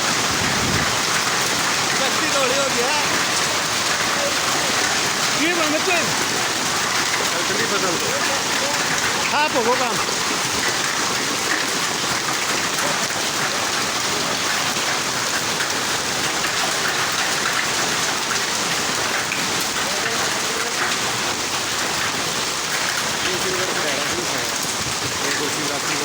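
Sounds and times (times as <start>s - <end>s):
heavy rain and hail: 0.0s - 26.0s.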